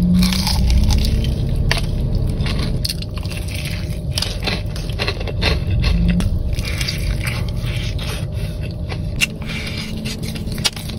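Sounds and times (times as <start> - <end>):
wet chewing of food: 0.0 - 10.9.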